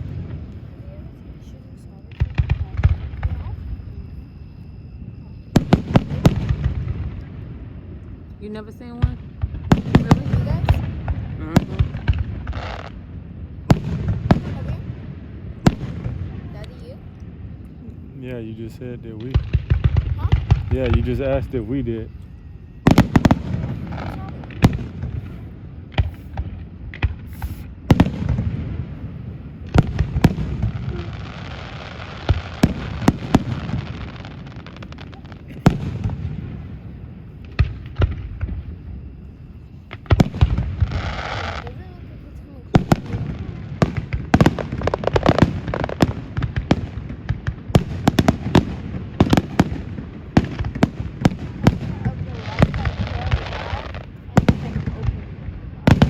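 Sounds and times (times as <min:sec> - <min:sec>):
firework booms: 0:00.0 - 0:01.1, 0:01.9 - 0:04.1, 0:05.5 - 0:22.1, 0:22.8 - 0:39.2, 0:39.9 - 0:41.9, 0:42.6 - 0:56.0
hissing crackle: 0:04.8 - 0:56.0.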